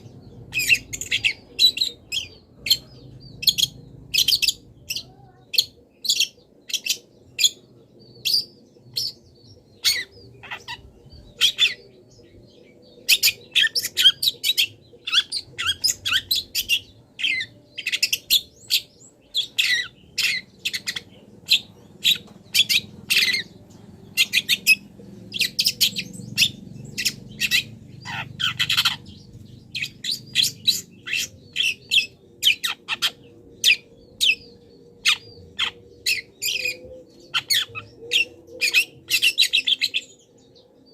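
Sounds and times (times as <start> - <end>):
shrike singing chirps and squawks: 0.0 - 40.9.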